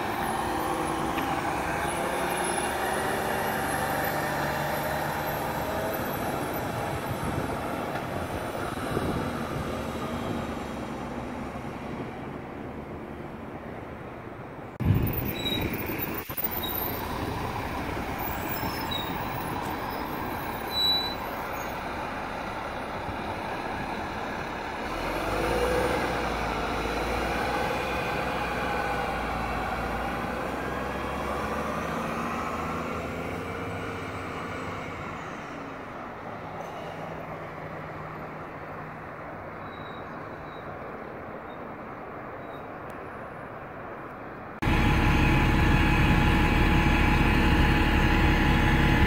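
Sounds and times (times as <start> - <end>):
bus diesel engine accelerating: 0.0 - 43.8, 44.4 - 49.0.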